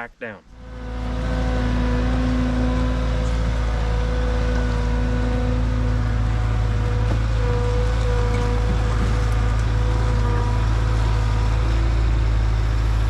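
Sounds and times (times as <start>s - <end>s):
skid steer engine running: 0.5s - 13.0s.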